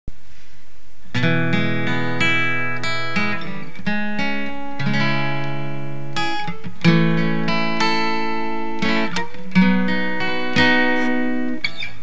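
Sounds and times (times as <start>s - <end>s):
acoustic guitar chords: 1.0s - 12.0s.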